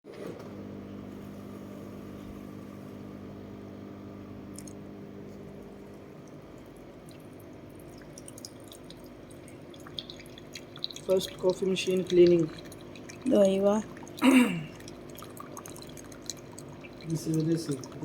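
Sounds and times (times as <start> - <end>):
coffee machine humming: 0.1 - 18.0.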